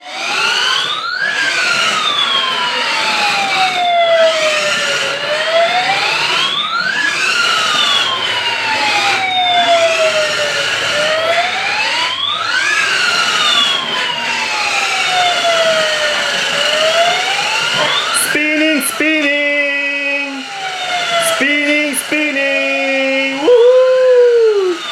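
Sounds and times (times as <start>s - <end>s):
siren wailing: 0.0s - 24.9s.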